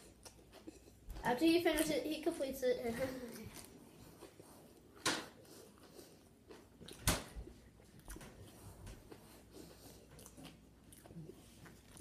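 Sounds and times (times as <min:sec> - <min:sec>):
faint small noises: 0:00.0 - 0:12.0.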